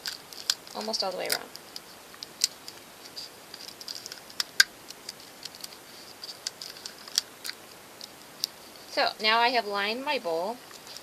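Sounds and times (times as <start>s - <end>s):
paper clicking and crinkling: 0.0s - 8.9s, 10.6s - 11.0s.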